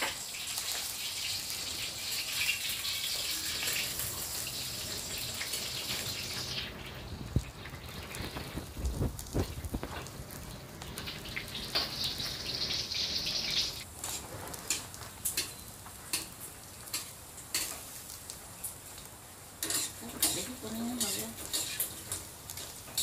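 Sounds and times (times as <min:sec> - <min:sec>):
rain on a tin roof: 0:00.0 - 0:23.0.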